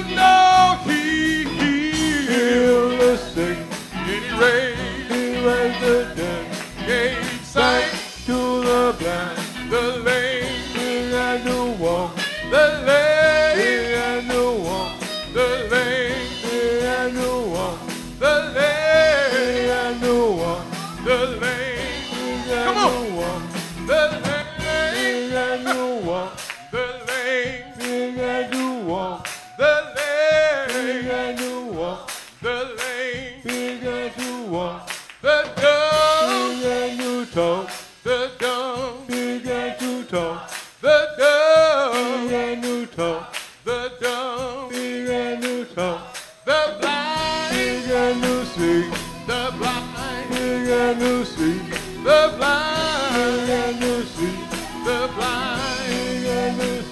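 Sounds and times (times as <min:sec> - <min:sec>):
church band playing: 0:00.0 - 0:56.9
man singing gospel: 0:00.0 - 0:56.9.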